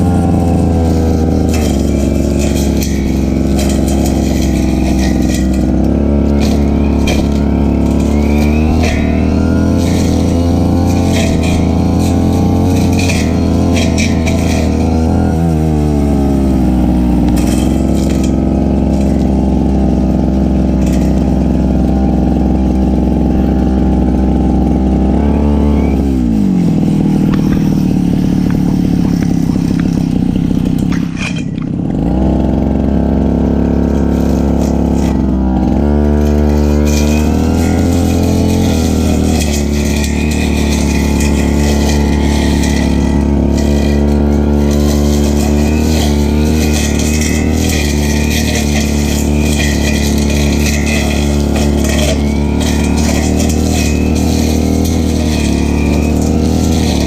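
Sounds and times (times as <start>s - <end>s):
cutting head striking vegetation: 0.0s - 33.1s, 33.7s - 57.0s
brush cutter engine running: 0.0s - 57.0s.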